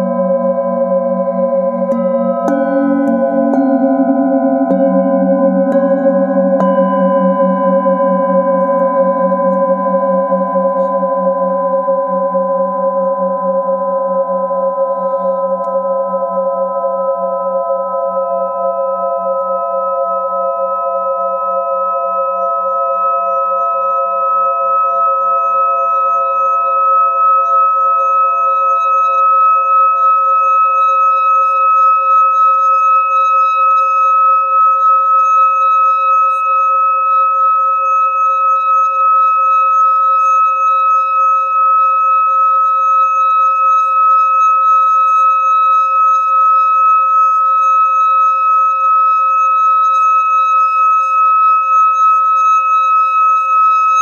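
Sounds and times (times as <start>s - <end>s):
singing bowl ringing: 0.0s - 54.0s.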